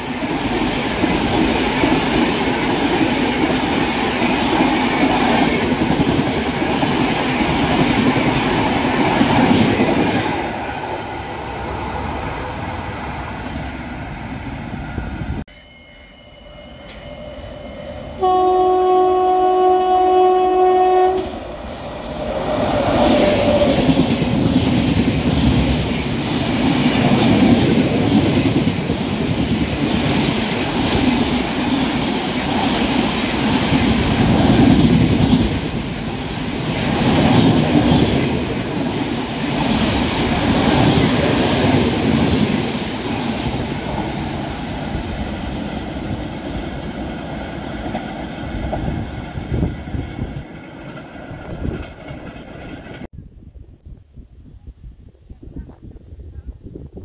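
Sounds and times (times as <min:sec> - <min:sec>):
train rumbling past: 0:00.0 - 0:53.2.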